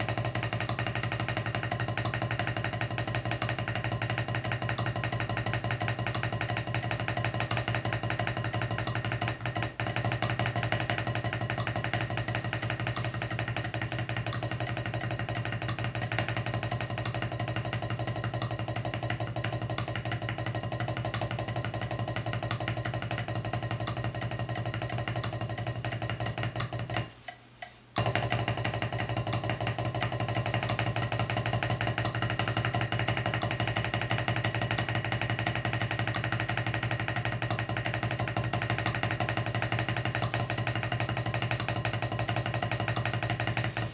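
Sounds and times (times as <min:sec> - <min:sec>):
drumsticks on practice pad: 0:00.0 - 0:43.9.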